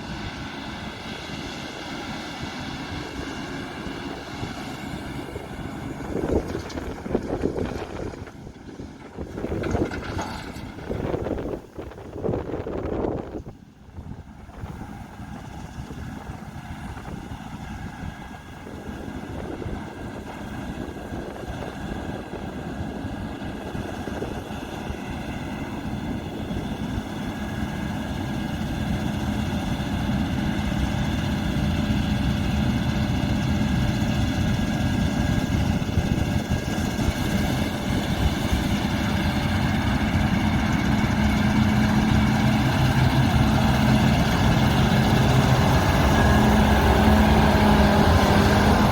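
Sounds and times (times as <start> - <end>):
diesel engine running: 0.0 - 48.9
steady machine whine: 0.0 - 48.9.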